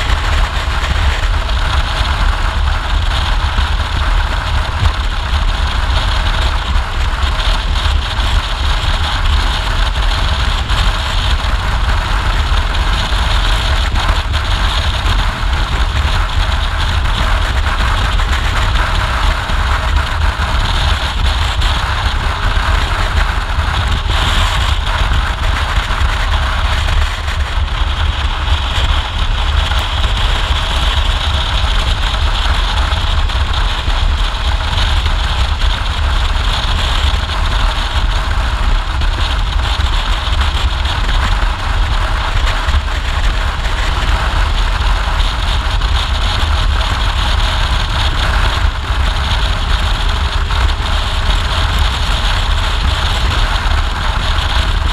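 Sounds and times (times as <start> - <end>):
motorcycle engine: 0.0 - 54.9
road noise: 0.0 - 54.9
wind buffeting microphone: 0.0 - 54.9.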